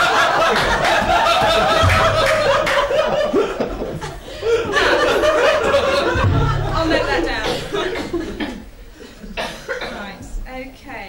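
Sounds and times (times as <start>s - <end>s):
people laughing: 0.0s - 9.9s.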